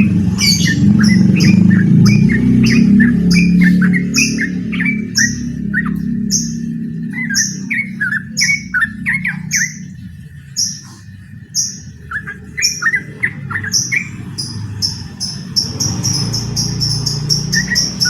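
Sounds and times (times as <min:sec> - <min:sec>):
bird singing short phrases: 0:00.0 - 0:18.0
high repeating chirp: 0:00.0 - 0:18.0
steady low hum: 0:00.0 - 0:18.0.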